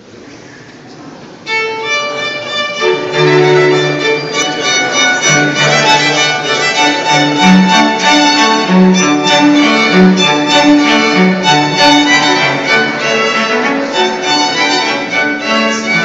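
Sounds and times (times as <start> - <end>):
viola and cello playing: 1.4 - 16.0
violins playing: 1.4 - 16.0.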